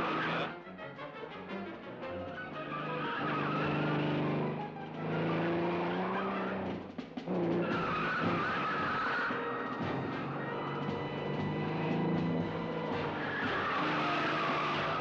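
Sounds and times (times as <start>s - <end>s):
car engine revving: 0.0s - 0.5s, 2.3s - 15.0s
tyres squealing: 0.0s - 0.5s, 2.4s - 6.8s, 7.4s - 15.0s.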